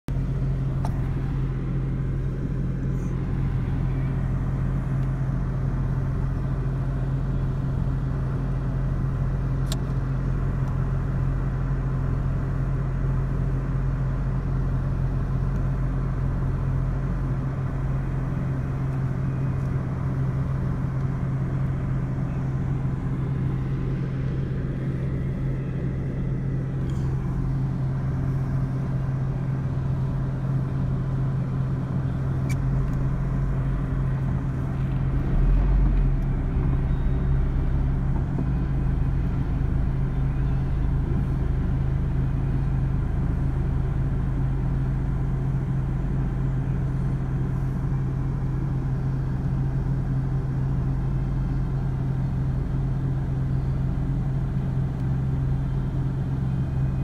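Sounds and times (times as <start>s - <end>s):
car engine idling: 0.1s - 57.0s.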